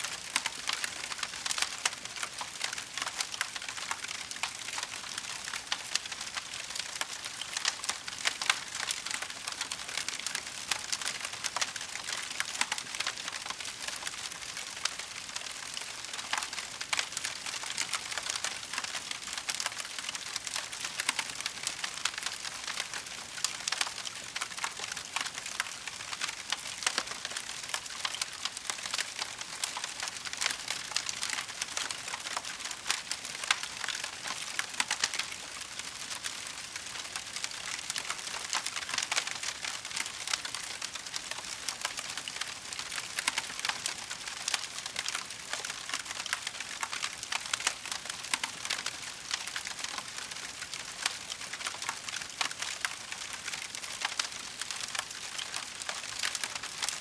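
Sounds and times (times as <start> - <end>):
wood fire crackling: 0.2 - 57.0.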